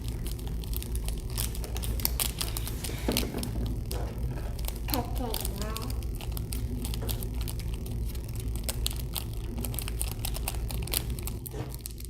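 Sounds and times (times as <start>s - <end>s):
low steady hum: 0.0s - 12.0s
plastic packaging crinkling: 0.0s - 12.0s.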